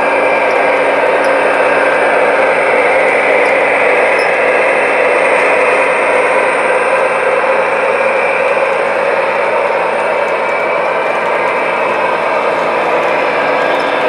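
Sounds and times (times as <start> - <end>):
model trains whirring on track: 0.0 - 14.0.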